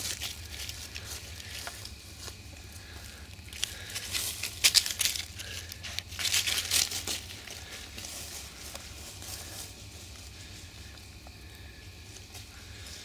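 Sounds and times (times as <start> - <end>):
dry leaves crunching: 0.0 - 13.0.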